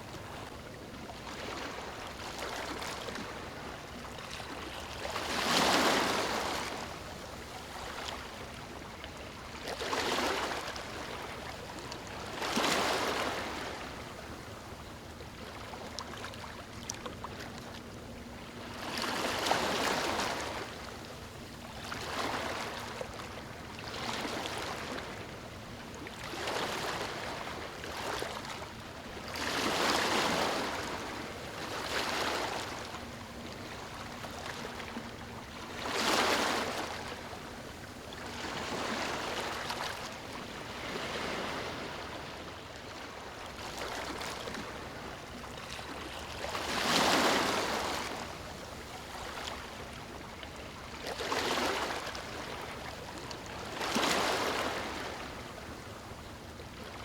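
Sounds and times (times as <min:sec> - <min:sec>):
small waves lapping on beach: 0:00.0 - 0:57.0.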